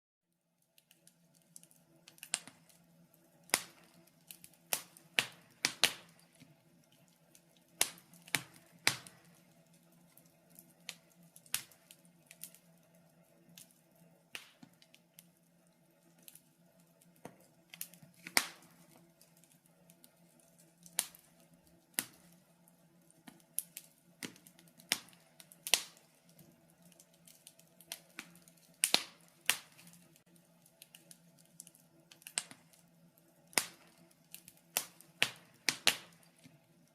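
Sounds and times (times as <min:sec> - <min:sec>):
low steady hum: 0:00.4 - 0:36.9
fire crackling and popping: 0:00.5 - 0:36.9.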